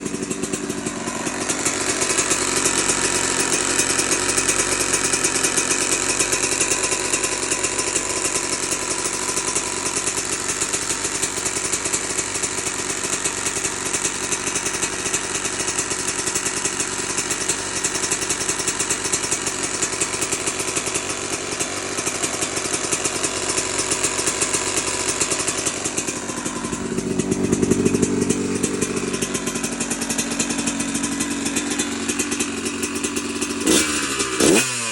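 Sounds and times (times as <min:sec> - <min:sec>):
rapid knocking rattle: 0:00.0 - 0:34.6
two-stroke dirt bike engine running: 0:00.0 - 0:34.9.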